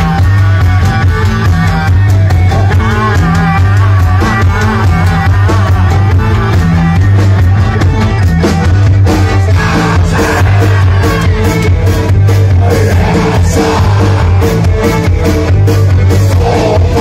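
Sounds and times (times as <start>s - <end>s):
accordion: 0.0s - 17.0s
drum beat: 0.0s - 17.0s
electric bass line: 0.0s - 17.0s
electric guitar: 0.0s - 17.0s.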